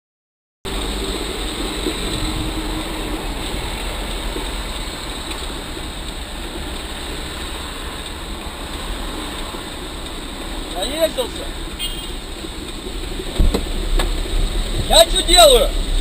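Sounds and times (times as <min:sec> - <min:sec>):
car engine and road noise: 0:00.7 - 0:16.0.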